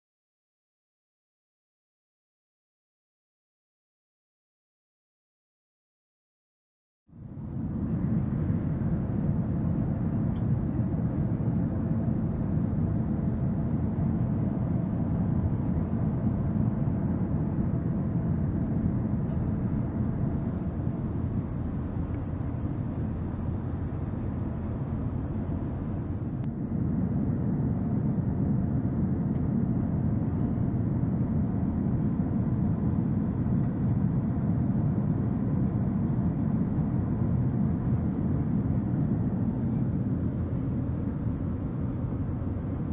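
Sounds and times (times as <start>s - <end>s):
airliner cabin rumble: 7.1s - 42.9s
faint steady hum: 7.1s - 42.9s.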